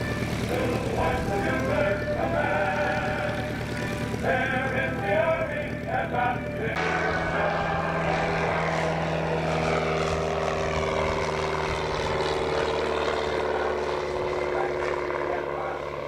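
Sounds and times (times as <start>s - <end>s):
propeller airplane engine: 0.0s - 16.0s.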